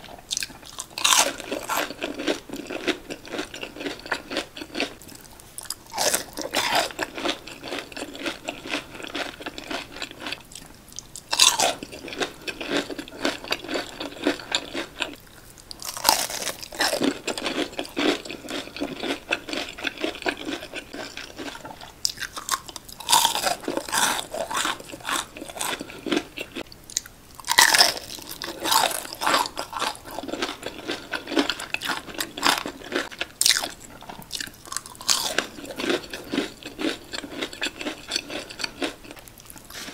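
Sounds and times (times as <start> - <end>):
crunchy chewing: 0.0 - 39.9
biting crispy fried food: 0.3 - 39.9.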